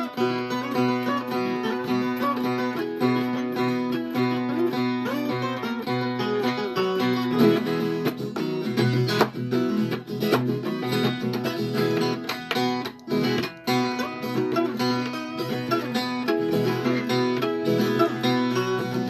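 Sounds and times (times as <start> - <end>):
guitar picking quick notes: 0.0 - 19.0.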